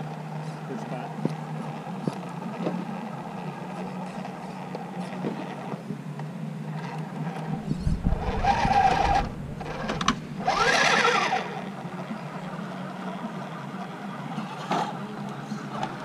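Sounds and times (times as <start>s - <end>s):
rc car motor whining: 0.0s - 16.0s.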